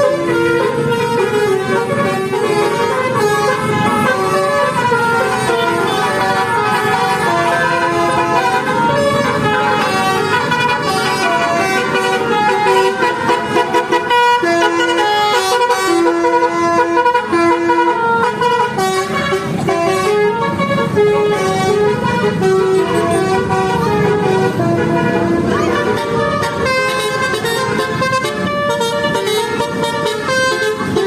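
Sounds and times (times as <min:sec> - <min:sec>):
bus horn playing a tune: 0:00.0 - 0:31.0.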